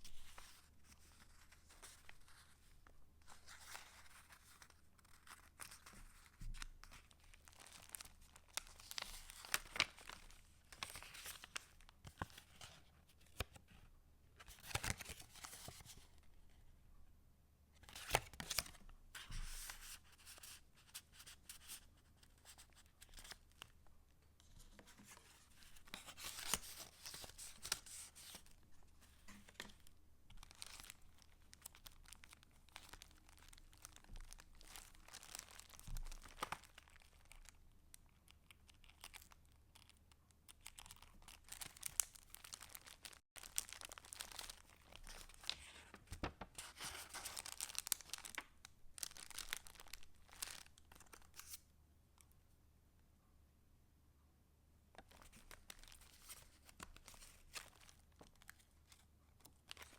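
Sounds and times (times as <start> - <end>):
paper pages rustling and crinkling: 0.0 - 16.3, 17.8 - 23.7, 24.4 - 37.6, 38.7 - 51.6, 55.0 - 59.9.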